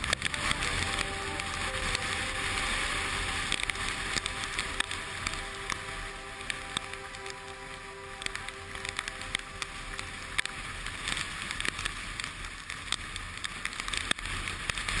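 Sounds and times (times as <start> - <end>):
low rumble: 0.0 - 13.2
sharp clicks and crackles: 0.0 - 15.0.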